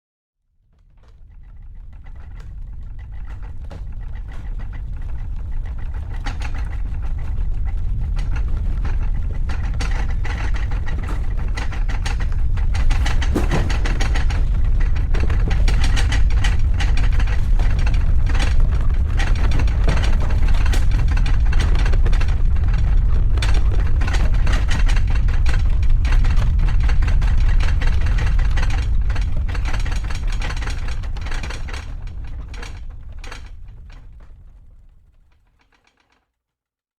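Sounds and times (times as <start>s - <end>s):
deep low rumble: 0.8s - 34.8s
household objects rattling: 0.8s - 36.2s.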